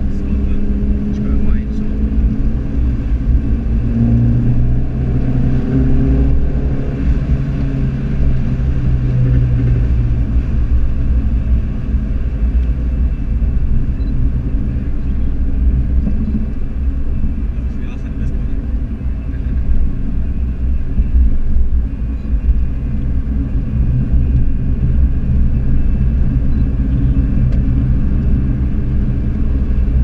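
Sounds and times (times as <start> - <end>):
car engine cruising: 0.0 - 30.0
tyre and road rumble: 0.0 - 30.0.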